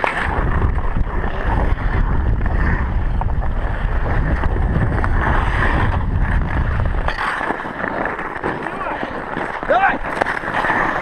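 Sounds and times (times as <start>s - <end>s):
skate blades scraping ice: 0.0s - 11.0s
wind rumbling on microphone: 0.0s - 11.0s.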